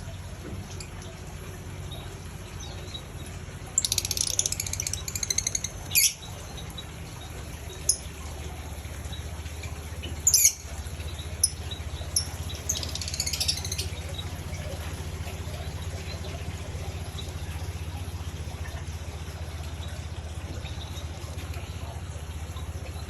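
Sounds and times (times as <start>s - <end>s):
birds chirping: 0.0s - 23.0s
steady low hum: 0.0s - 23.0s.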